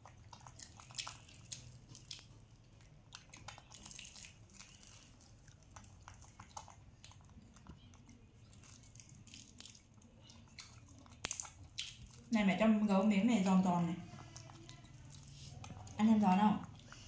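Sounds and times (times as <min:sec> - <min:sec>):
crunching and chewing: 0:00.0 - 0:17.0.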